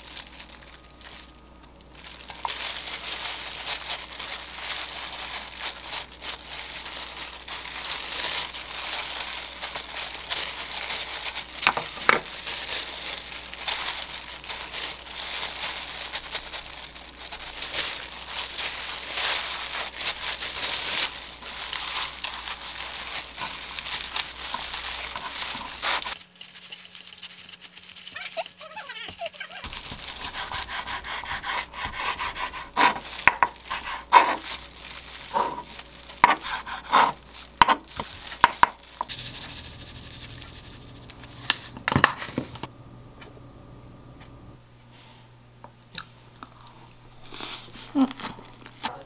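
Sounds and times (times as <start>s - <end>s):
dry seaweed crackling: 0.0s - 41.7s
plastic gloves crinkling: 0.0s - 42.7s, 46.2s - 49.0s.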